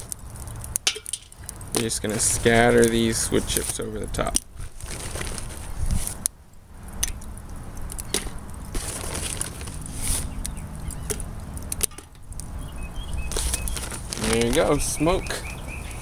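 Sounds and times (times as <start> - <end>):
wood chips crackling on hot charcoal: 0.0 - 16.0.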